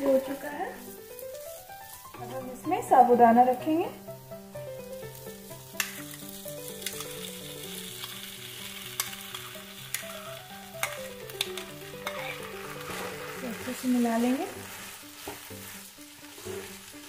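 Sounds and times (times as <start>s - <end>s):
food sizzling in a frying pan: 0.0s - 17.0s
soft background melody: 0.0s - 17.0s.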